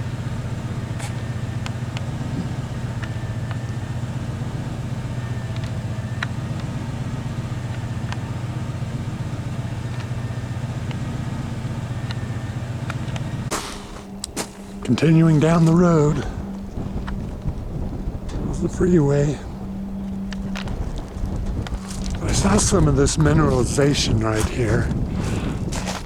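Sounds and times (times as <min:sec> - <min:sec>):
sharp clicks and rattles: 0:00.0 - 0:26.0
vehicle engine drone: 0:00.0 - 0:26.0.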